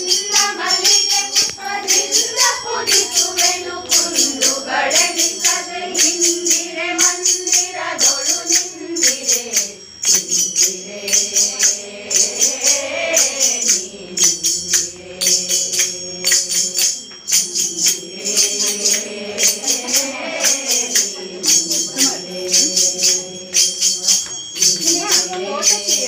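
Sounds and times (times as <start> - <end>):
jingling hand percussion: 0.0 - 26.0
women singing together: 0.0 - 26.0.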